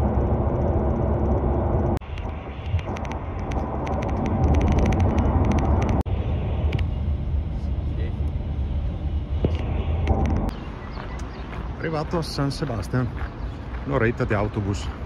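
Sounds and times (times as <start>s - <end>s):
bus rumbling from inside: 0.0s - 15.0s.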